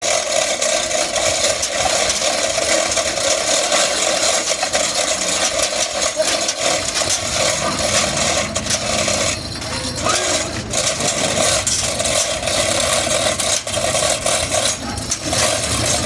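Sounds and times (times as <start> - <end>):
rattling and clatter: 0.0 - 16.0.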